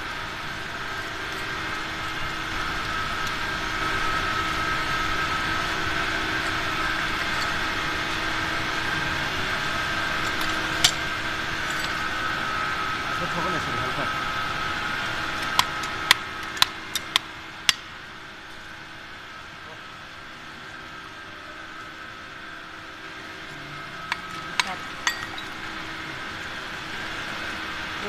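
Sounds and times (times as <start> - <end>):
drilling machinery drone: 0.0 - 28.0.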